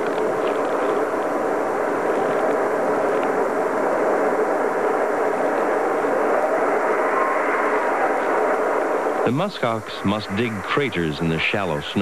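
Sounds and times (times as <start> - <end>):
strong wind blowing: 0.0 - 12.0.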